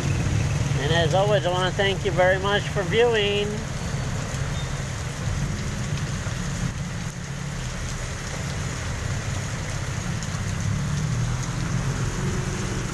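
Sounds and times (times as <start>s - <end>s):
cars driving through water: 0.0s - 12.9s
heavy rain on street: 0.0s - 12.9s
rain on plastic awning: 0.0s - 12.9s.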